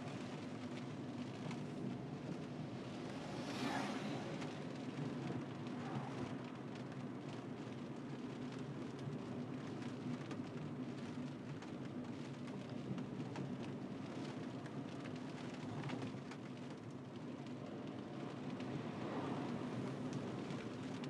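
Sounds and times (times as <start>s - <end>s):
raindrops ticking on car: 0.0s - 21.0s
road and engine hum: 0.0s - 21.0s.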